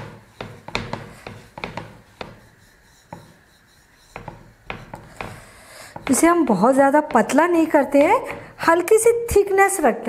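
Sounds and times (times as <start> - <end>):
rolling pin on wooden board: 0.0 - 8.9.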